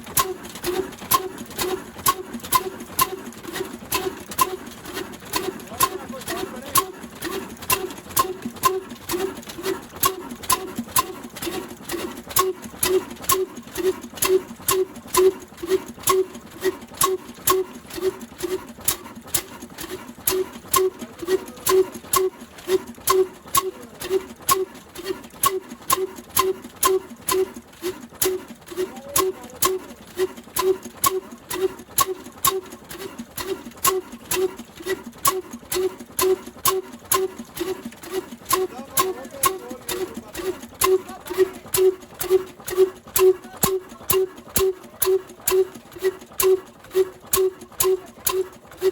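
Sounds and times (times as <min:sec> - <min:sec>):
diesel engine chuffing: 0:00.0 - 0:48.9.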